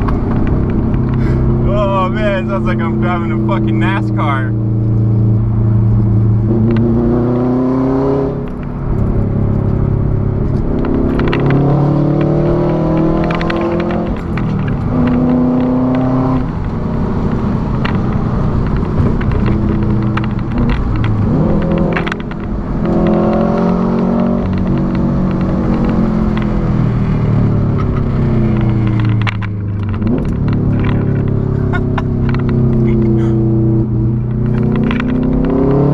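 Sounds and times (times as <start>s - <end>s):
sharp exhaust pops: 0.0s - 7.1s, 8.4s - 35.9s
loud car exhaust accelerating: 0.0s - 35.9s.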